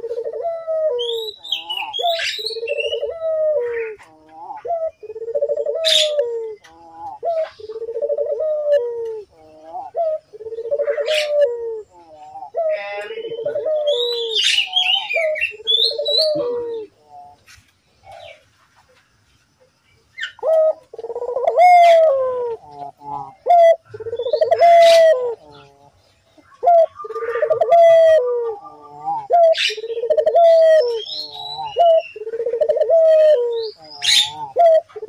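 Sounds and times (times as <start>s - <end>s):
dove cooing: 0.0s - 18.4s, 20.2s - 35.0s
small birds chirping: 0.0s - 35.0s.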